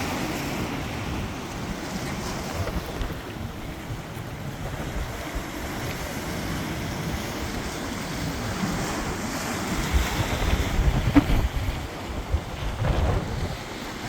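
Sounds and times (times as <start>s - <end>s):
storm surf washing in: 0.0s - 14.0s
wind buffeting microphone: 0.0s - 14.0s.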